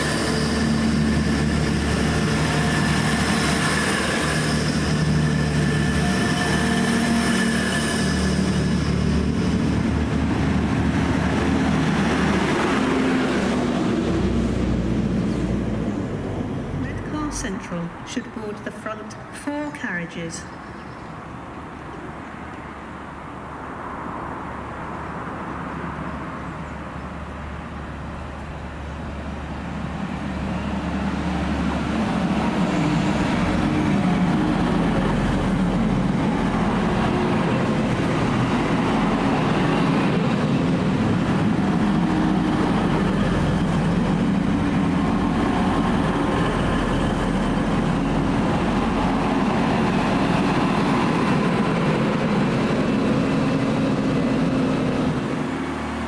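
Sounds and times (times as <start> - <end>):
diesel train engines running: 0.0 - 56.0.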